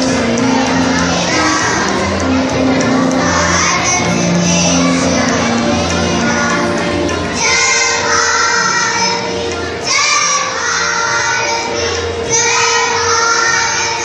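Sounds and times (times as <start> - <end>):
children singing: 0.0 - 14.0
musical accompaniment: 0.0 - 14.0.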